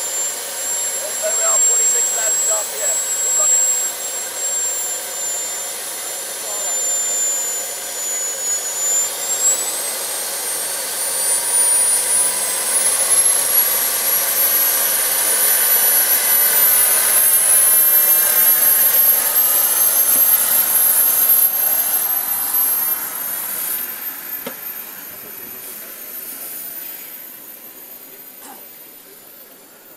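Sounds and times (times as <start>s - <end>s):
model gas turbine whining: 0.0s - 29.9s.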